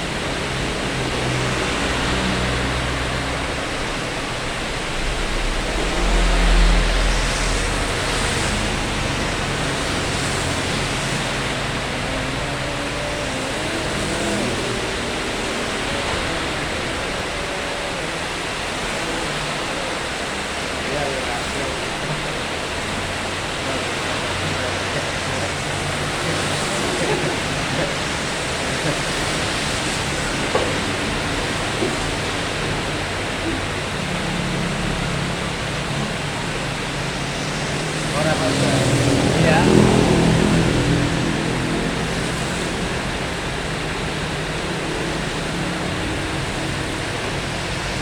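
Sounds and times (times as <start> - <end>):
heavy rain hiss: 0.0 - 48.0.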